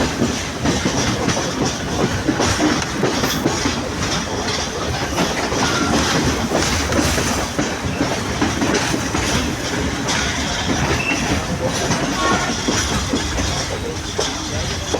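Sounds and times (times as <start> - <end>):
train rumbling: 0.0 - 14.9
wheels clacking over rail joints: 0.0 - 14.9.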